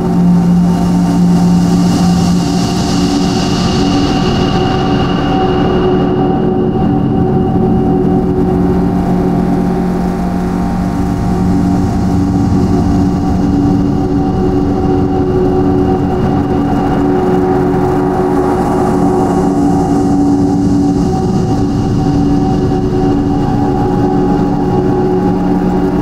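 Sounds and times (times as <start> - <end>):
dense low rumble: 0.0 - 26.0
steady drone of held tones: 0.0 - 26.0.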